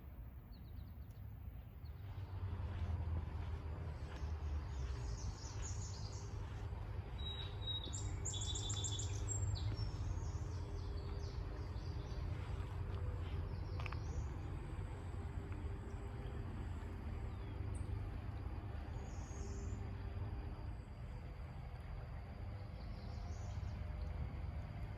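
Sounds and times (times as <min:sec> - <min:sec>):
songbirds singing: 0:00.0 - 0:24.9
low rumble: 0:01.5 - 0:24.9.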